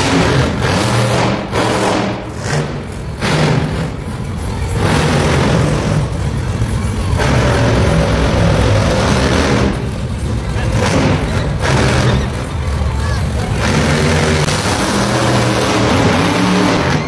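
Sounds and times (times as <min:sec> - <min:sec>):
monster truck engine running: 0:00.0 - 0:17.0.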